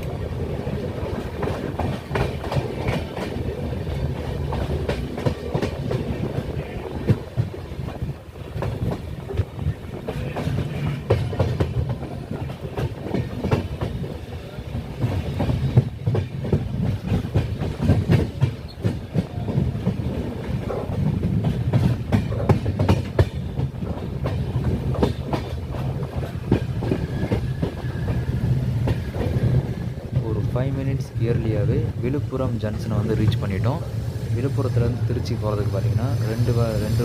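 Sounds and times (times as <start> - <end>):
train wheels rumbling and clacking: 0.0 - 37.0.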